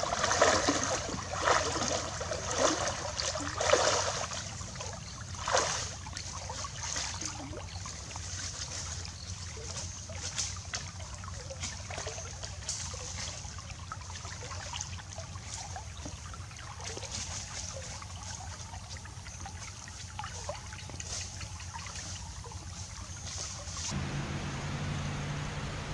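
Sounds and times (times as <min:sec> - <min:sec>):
stream trickling: 0:00.0 - 0:25.9
water splashing: 0:00.0 - 0:25.9.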